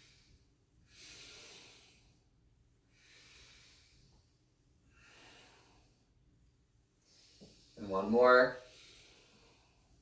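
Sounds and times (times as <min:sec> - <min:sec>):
faint breathing through nose: 0:00.0 - 0:06.3, 0:06.9 - 0:07.8, 0:08.6 - 0:10.0.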